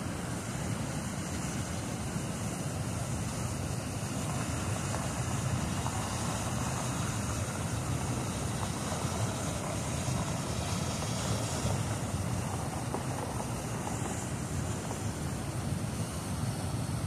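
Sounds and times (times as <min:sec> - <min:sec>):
turbulent river water rushing: 0:00.0 - 0:17.0
wind buffeting microphone: 0:00.0 - 0:17.0.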